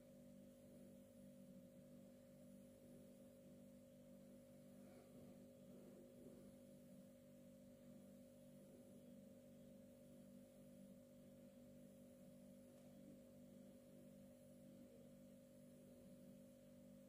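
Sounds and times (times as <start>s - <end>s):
faint steady low hum: 0.0s - 17.0s.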